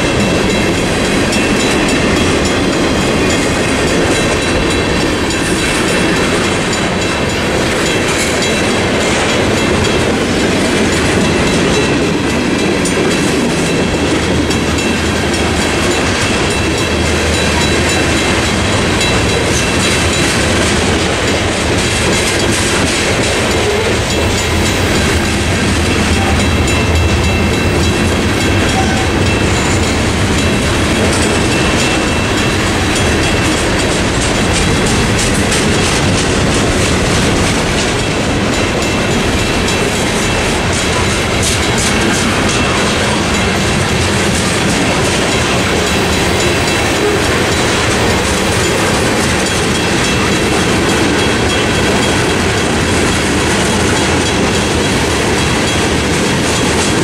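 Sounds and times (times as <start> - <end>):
crossing bell ringing: 0.0 - 57.0
train wheels clacking over rail joints: 0.0 - 57.0.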